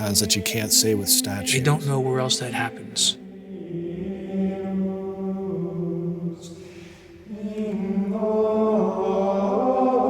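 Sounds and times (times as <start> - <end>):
voices singing liturgical chant: 0.0 - 10.0.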